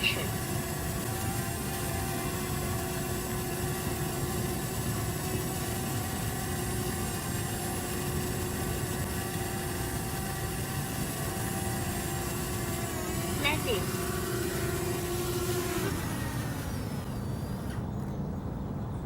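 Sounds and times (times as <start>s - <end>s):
drone propeller hum: 0.0s - 19.0s
motor whine: 0.0s - 19.0s.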